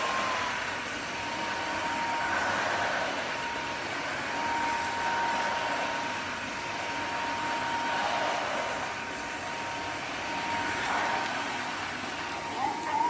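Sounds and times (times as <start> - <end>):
floor vacuum running: 0.0 - 13.0.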